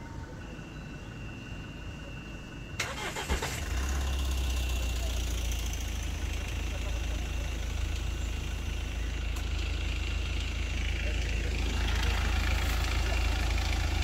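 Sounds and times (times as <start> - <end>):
car engines idling: 0.0 - 14.0.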